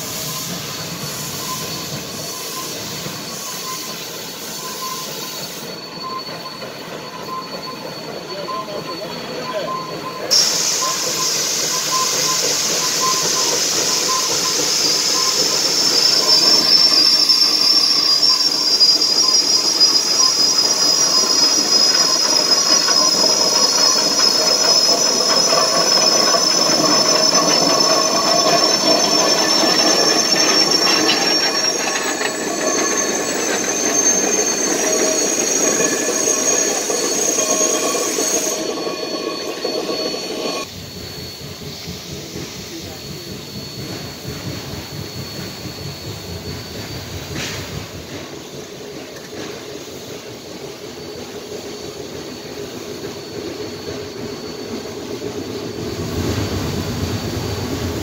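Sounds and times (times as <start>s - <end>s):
steam hissing: 0.0s - 58.0s
train wheels squealing on rails: 0.0s - 58.0s.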